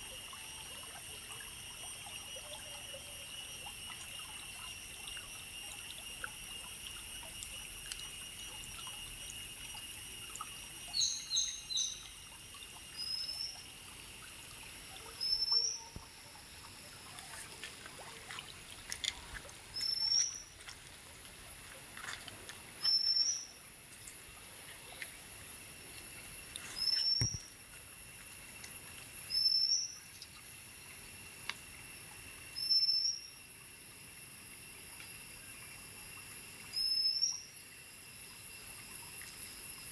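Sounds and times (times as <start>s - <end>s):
high-pitched insect drone: 0.0s - 20.9s, 22.3s - 39.9s.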